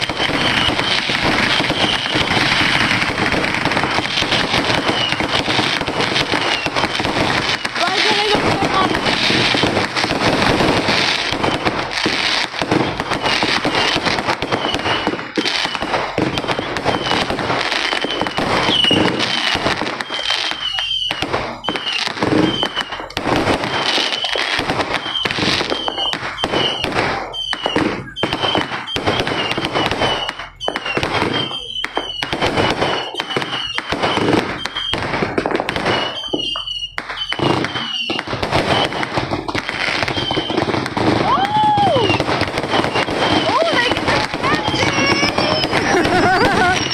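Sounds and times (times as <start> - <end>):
fireworks crackling and popping: 0.0 - 46.9.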